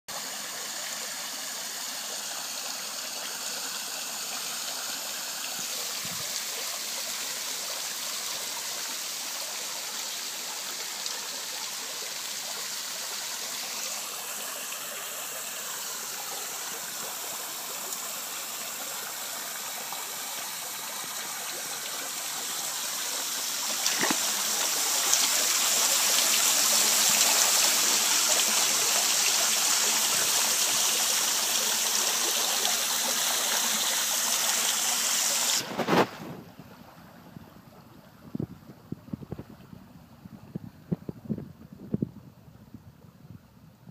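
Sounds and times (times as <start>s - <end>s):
fountain water splashing into pool: 0.1s - 37.8s.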